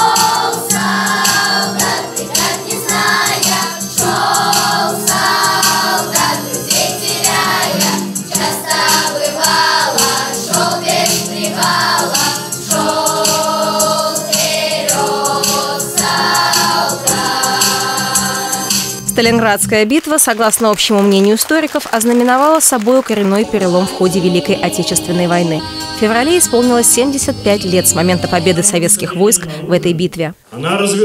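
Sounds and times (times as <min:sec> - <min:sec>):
children's choir singing: 0:00.0 - 0:19.0, 0:23.4 - 0:29.6
musical accompaniment: 0:00.0 - 0:20.0, 0:22.7 - 0:30.2.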